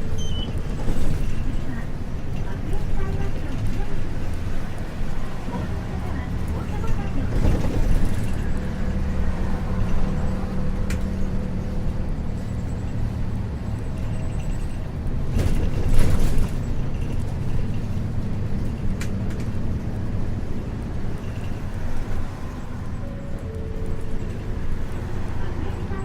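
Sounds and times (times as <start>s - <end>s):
bus diesel engine rumble: 0.0s - 26.0s.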